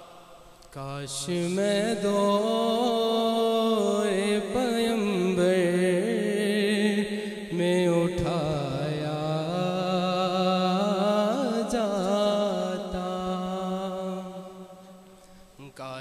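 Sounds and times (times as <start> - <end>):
young man chanting: 0.0 - 16.0.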